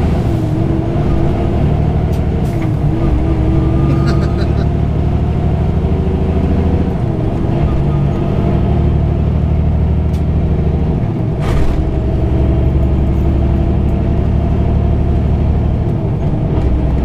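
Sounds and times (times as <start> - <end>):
diesel truck engine droning: 0.0 - 17.0
road rumble: 0.0 - 17.0.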